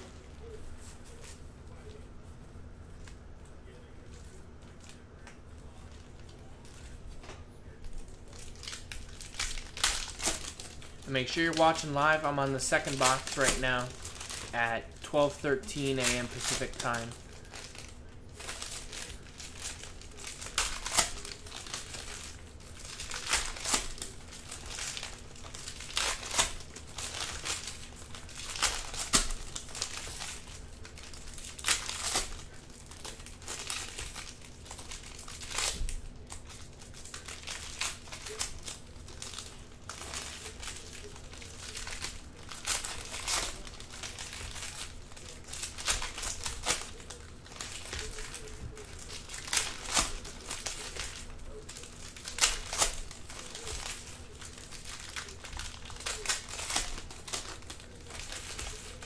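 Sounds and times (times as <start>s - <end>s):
foil wrappers tearing and crinkling: 3.0s - 59.0s.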